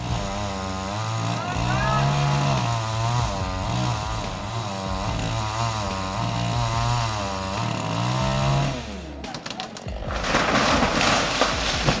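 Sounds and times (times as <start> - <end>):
chainsaw engine running under load: 0.0 - 12.0.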